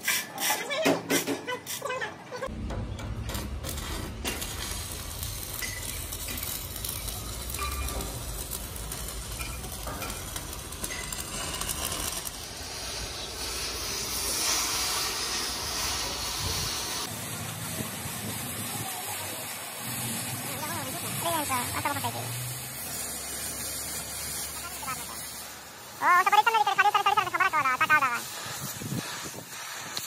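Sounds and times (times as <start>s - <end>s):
arc welding crackle: 2.4s - 30.0s
gas cutting torch hissing: 3.4s - 30.0s.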